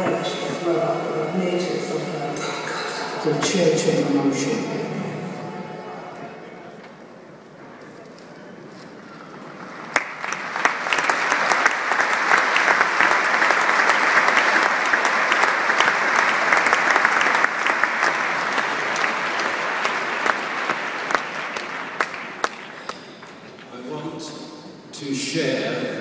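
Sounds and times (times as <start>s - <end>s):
crowd applauding: 0.0s - 23.8s.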